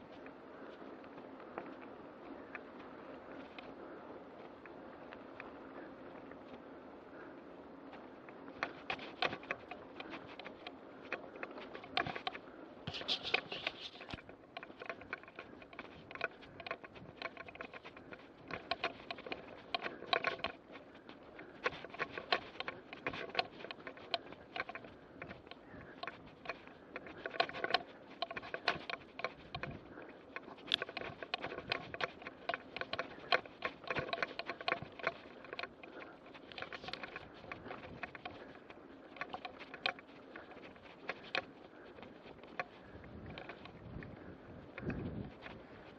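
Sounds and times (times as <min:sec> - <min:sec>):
bike rattling over rough track: 0:00.0 - 0:45.9.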